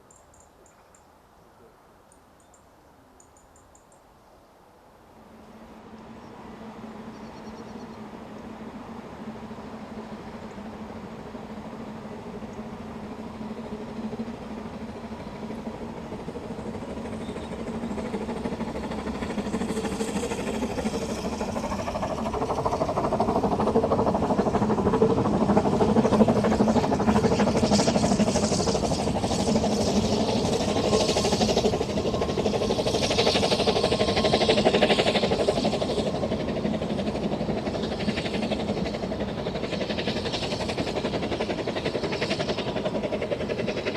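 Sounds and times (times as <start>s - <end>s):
train running on track: 4.8s - 43.9s.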